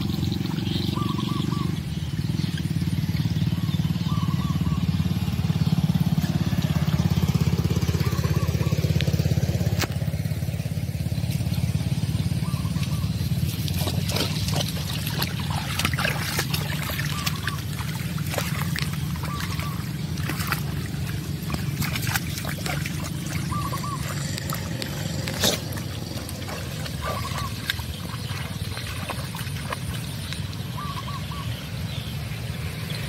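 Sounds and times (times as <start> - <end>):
dog wading through water: 0.0 - 9.2, 11.2 - 33.0
small engine droning: 0.0 - 33.0.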